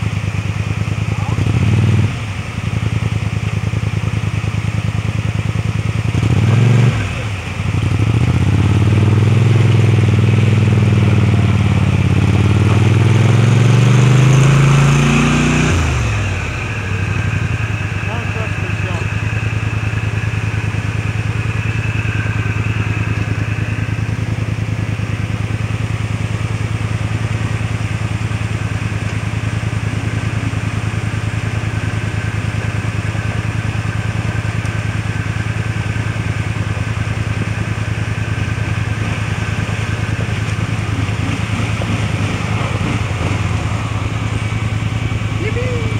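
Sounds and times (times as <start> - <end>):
atv engine running steadily: 0.0 - 45.9.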